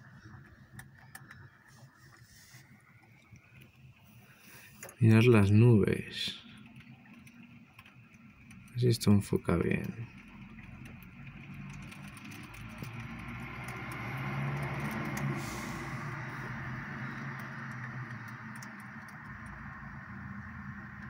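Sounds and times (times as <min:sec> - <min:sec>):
raindrops ticking: 0:03.0 - 0:21.0.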